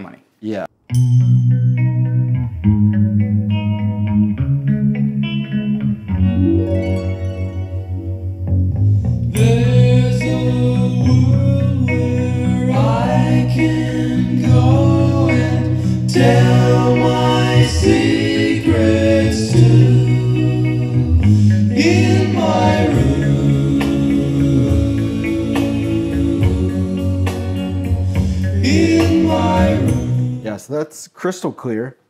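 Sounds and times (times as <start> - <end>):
song with singer and guitar: 0.9 - 30.5.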